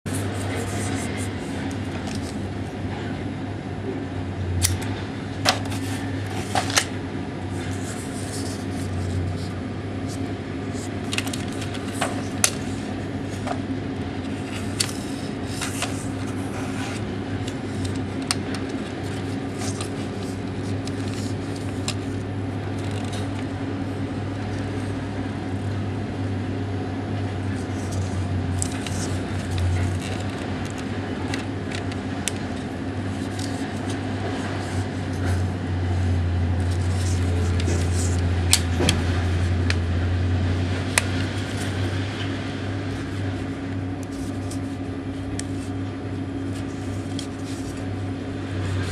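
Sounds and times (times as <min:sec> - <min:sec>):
steady low hum: 0:00.1 - 0:48.9.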